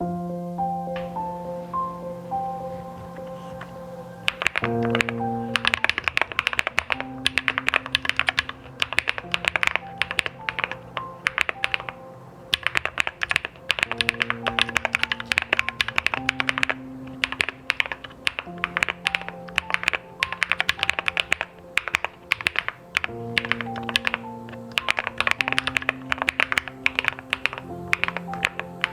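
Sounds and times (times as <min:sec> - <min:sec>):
background music of held notes: 0:00.0 - 0:28.9
fast typing on mechanical keyboard: 0:03.4 - 0:28.9.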